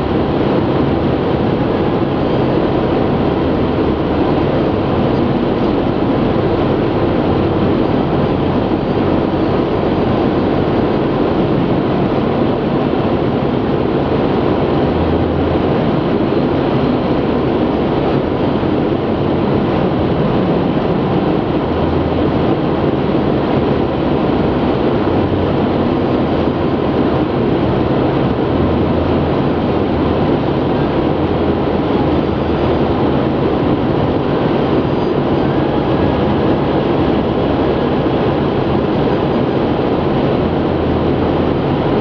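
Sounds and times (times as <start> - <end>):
car engine running: 0.0 - 42.0
road and tyre noise: 0.0 - 42.0.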